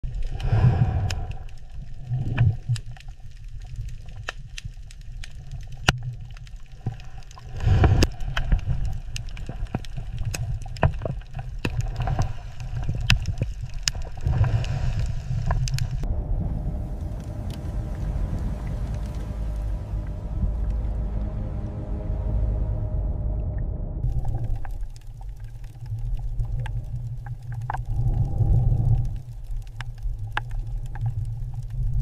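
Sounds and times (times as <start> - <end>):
low rumble: 0.0 - 3.6, 6.6 - 32.0
water sloshing and gurgling: 0.0 - 32.0.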